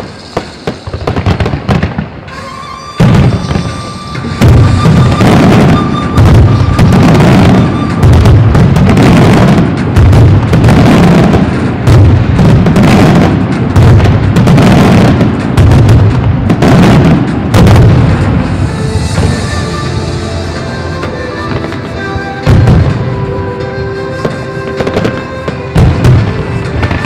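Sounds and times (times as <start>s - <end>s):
firework shells bursting: 0.0s - 23.1s.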